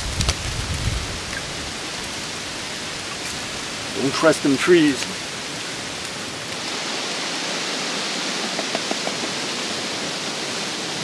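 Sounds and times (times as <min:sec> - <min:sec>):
wind blowing through trees: 0:00.0 - 0:11.0.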